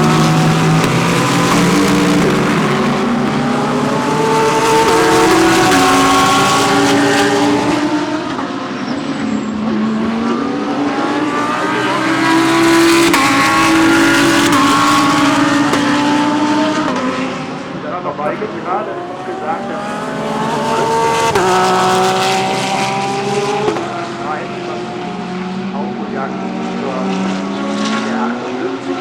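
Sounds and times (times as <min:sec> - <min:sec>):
race car engines accelerating: 0:00.0 - 0:29.0.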